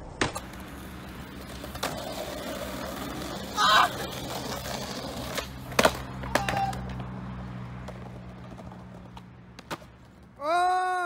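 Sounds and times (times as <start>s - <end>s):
skateboard clacks on asphalt: 0.0s - 10.3s.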